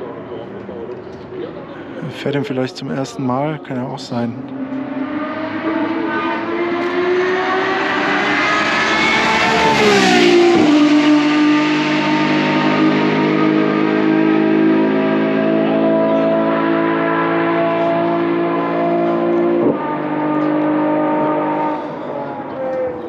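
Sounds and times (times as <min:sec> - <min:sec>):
loud car engine revving: 0:04.4 - 0:23.0.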